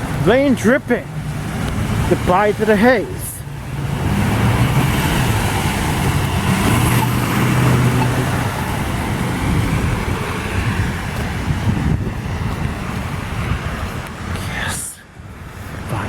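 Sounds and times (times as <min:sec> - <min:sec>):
rain falling and dripping: 0:00.0 - 0:14.5.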